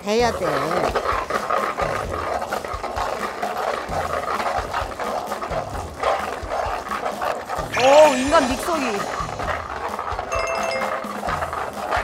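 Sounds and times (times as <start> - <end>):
scraping in grinding bowl: 0.4 - 12.0.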